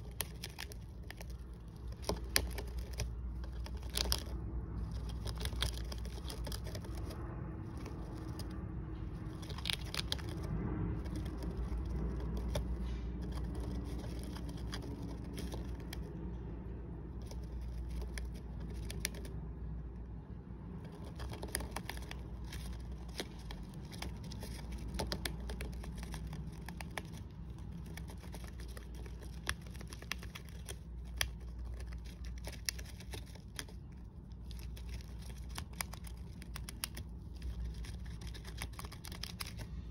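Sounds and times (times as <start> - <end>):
hamster gnawing wooden stick: 0.0 - 39.9
steady low hum: 0.0 - 39.9.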